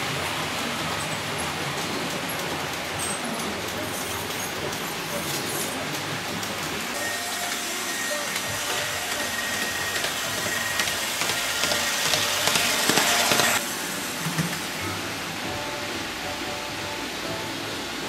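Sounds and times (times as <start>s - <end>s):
model train rolling hiss: 0.2s - 18.0s.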